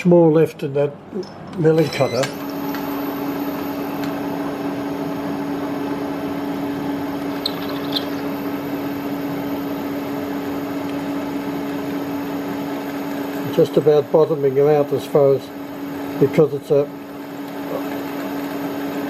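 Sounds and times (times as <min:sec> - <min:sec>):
milling machine humming: 0:01.1 - 0:19.0.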